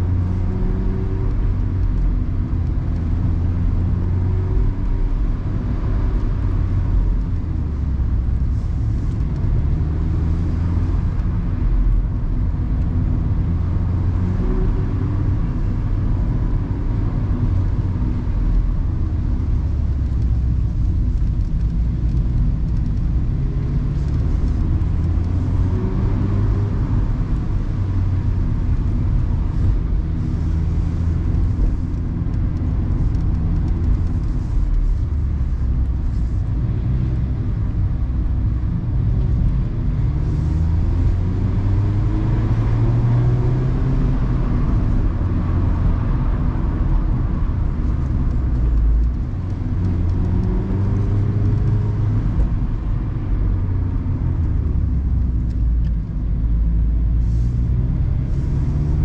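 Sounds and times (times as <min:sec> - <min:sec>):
car engine accelerating: 0:00.0 - 0:59.0
road and wind noise: 0:00.0 - 0:59.0.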